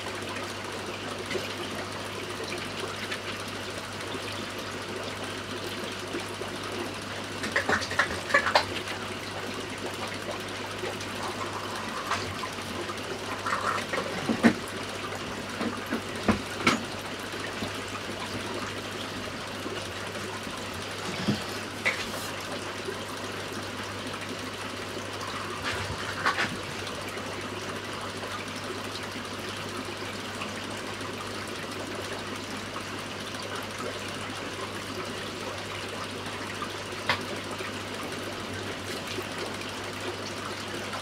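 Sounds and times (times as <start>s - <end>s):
aquarium water trickling: 0.0s - 41.0s
water splashing and bubbling: 0.0s - 41.0s.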